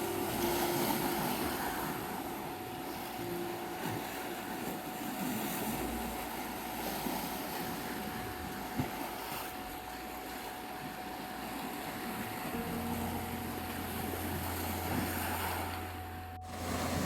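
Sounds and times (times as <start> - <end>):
constant pure tone: 0.0 - 17.0
waves washing ashore: 0.0 - 17.0.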